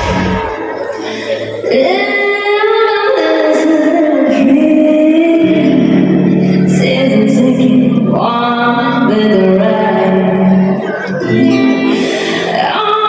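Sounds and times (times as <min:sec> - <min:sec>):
woman singing: 0:01.1 - 0:13.0.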